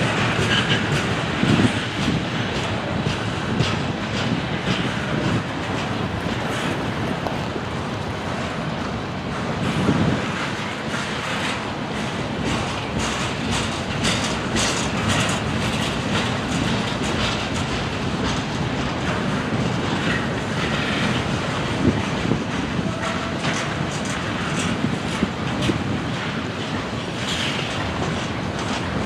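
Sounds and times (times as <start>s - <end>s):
train rolling rumble: 0.0s - 29.0s
train wheels clicking over rail joints: 0.0s - 29.0s.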